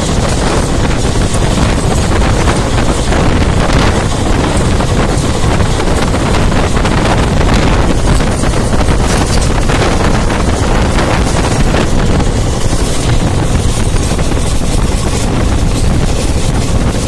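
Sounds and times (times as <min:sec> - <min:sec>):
train running at speed: 0:00.0 - 0:17.0
wind rushing on microphone: 0:00.0 - 0:17.0.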